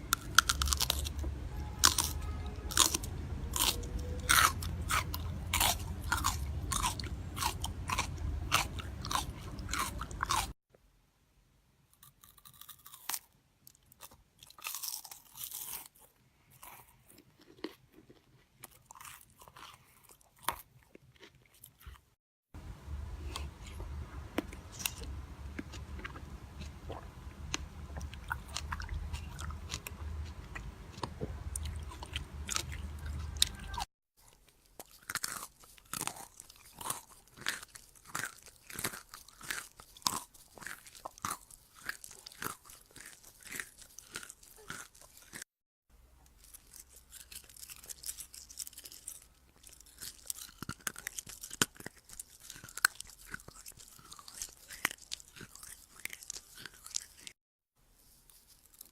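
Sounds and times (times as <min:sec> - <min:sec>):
chewing crunchy food: 0:00.0 - 0:10.6, 0:12.0 - 0:22.2, 0:23.0 - 0:45.5, 0:46.2 - 0:57.4, 0:58.1 - 0:58.9.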